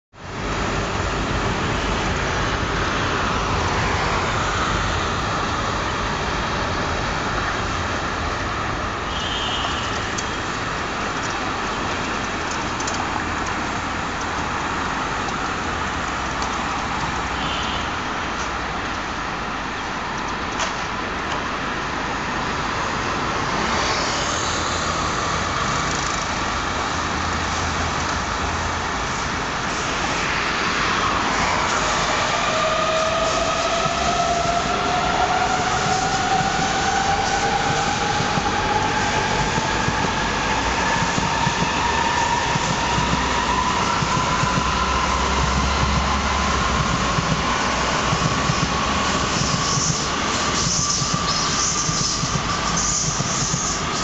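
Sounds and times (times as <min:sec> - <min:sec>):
high-speed train passing: 0:00.2 - 0:54.0
traffic-like rumble and hiss: 0:00.2 - 0:54.0.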